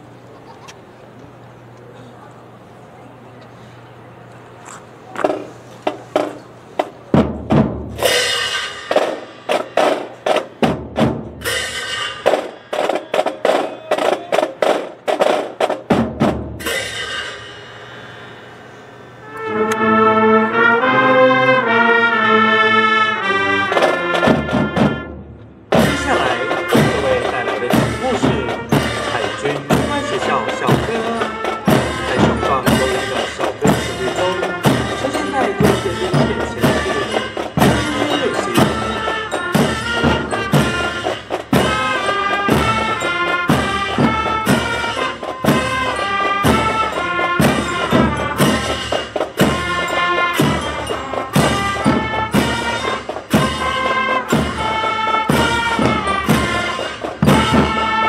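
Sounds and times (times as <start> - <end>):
marching drums: 5.1 - 17.8, 19.5 - 58.0
brass band playing: 5.2 - 17.5, 19.1 - 58.0.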